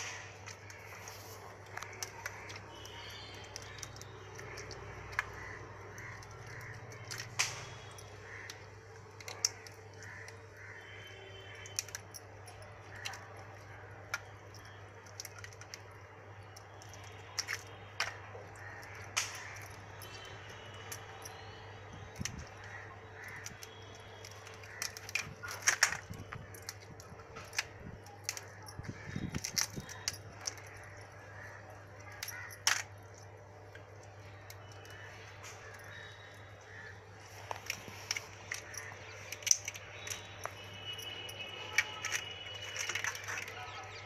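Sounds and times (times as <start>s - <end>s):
crab shells cracking: 0.0s - 44.0s.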